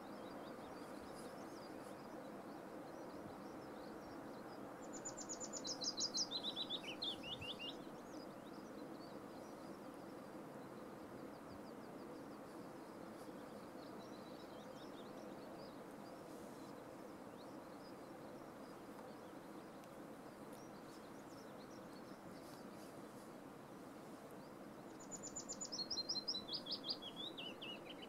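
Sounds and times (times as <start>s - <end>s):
faint outdoor rush: 0.0s - 28.0s
songbird chirping: 0.0s - 28.0s.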